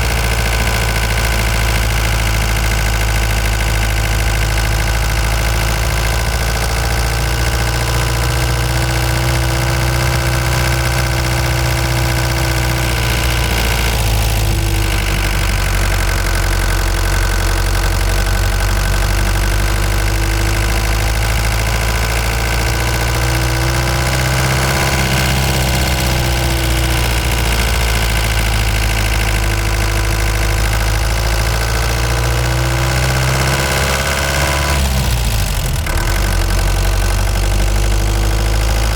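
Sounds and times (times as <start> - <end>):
van engine drone: 0.0 - 38.9.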